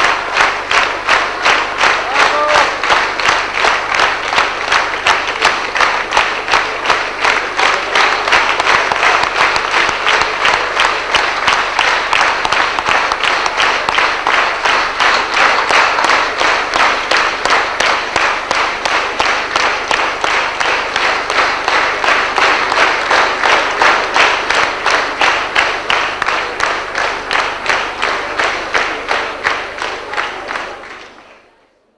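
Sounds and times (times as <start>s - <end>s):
audience clapping in rhythm: 0.0s - 31.9s.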